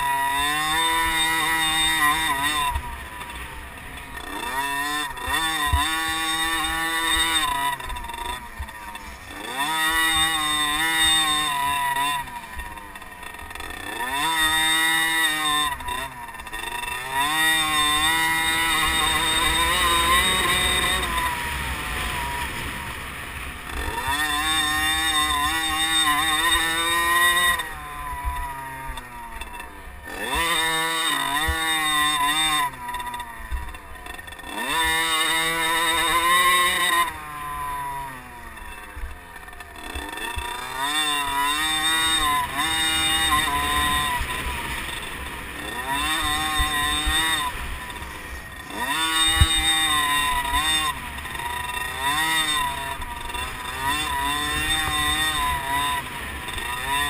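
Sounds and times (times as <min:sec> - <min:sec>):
motocross bike engines racing: 0:00.0 - 0:57.0.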